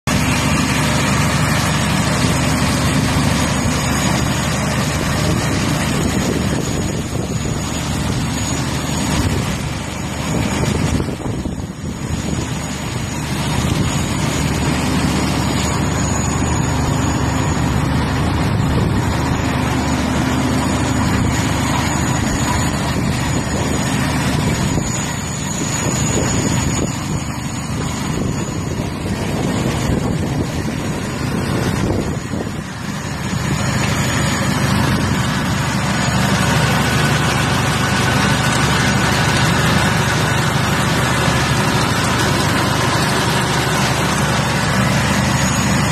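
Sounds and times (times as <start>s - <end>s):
pump machine hum: 0.0s - 45.9s
faint high whine: 0.1s - 45.9s.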